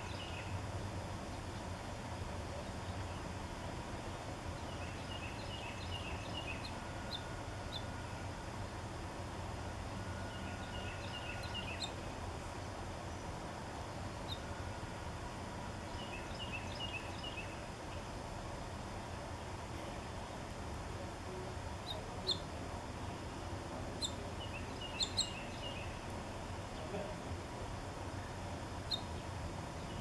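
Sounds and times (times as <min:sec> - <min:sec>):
low outdoor background noise: 0:00.0 - 0:30.0
songbird singing: 0:00.0 - 0:30.0.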